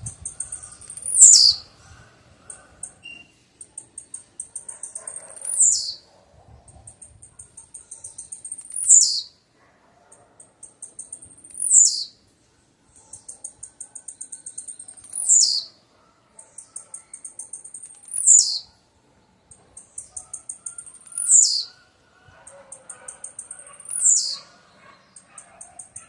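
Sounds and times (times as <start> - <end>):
bird singing ticking phrases: 0.0 - 12.3, 12.9 - 26.0.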